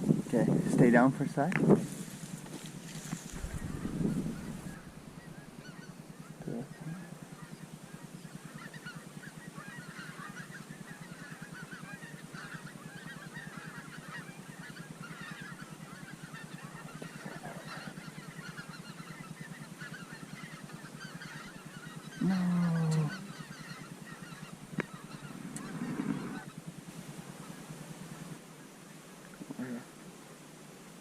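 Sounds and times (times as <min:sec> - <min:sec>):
geese honking: 0:02.3 - 0:29.9.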